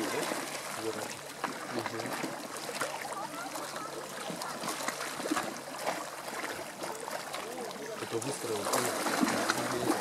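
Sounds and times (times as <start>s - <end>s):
water lapping against shore: 0.0s - 10.0s.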